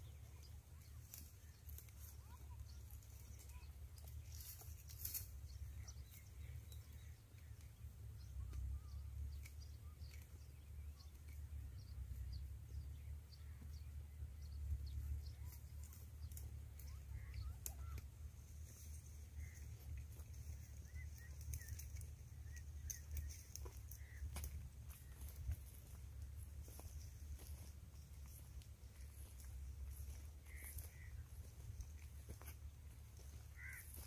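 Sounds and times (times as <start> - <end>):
small clicks and crackles: 0.0 - 11.6, 14.9 - 34.0
faint bird chirps: 0.0 - 34.0
steady low rumble: 2.2 - 34.0.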